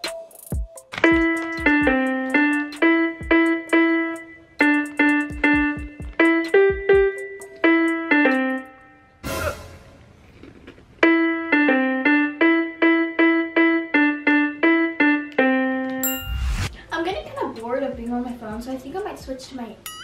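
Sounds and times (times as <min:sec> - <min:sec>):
electronic keyboard piano tune: 0:00.0 - 0:09.4, 0:11.0 - 0:18.8.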